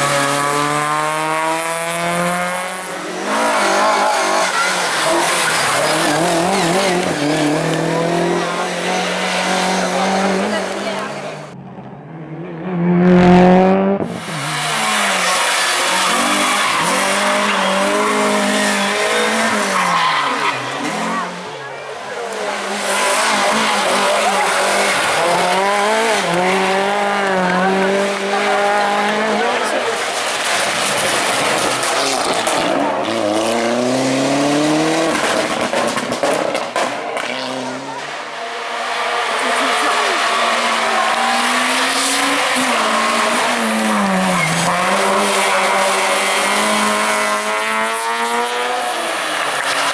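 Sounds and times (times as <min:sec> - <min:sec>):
rally car engine revving: 0:00.0 - 0:49.9.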